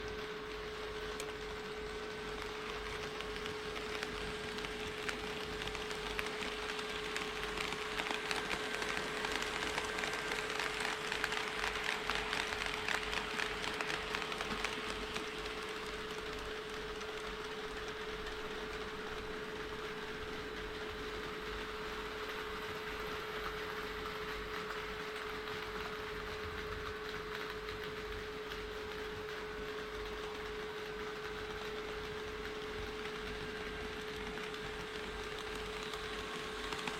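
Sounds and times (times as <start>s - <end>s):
model train running: 0.0s - 36.9s.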